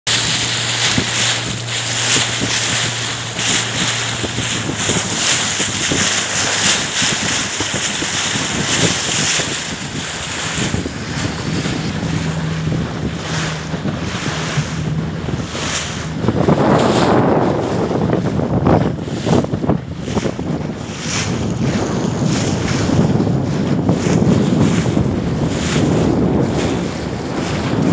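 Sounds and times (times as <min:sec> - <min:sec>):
boat engine humming: 0:00.0 - 0:27.9
water rushing past boat: 0:00.0 - 0:27.9
wind buffeting microphone: 0:00.1 - 0:27.9.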